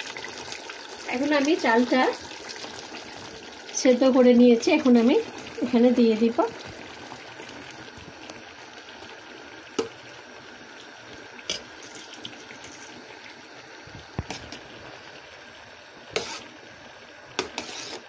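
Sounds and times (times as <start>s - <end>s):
pot hissing on stove: 0.0s - 18.0s.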